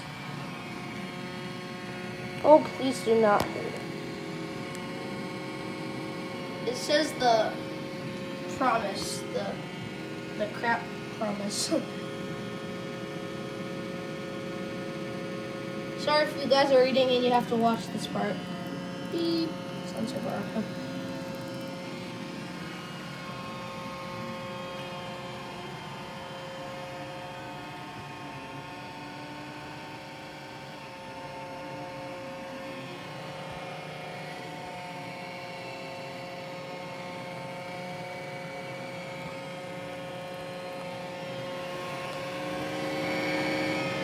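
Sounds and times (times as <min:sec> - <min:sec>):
robot vacuum humming: 0:00.0 - 0:44.0
whining tones: 0:00.0 - 0:44.0.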